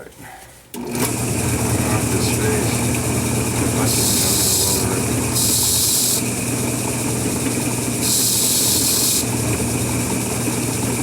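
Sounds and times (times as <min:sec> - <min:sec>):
lathe motor humming: 0:00.8 - 0:11.0.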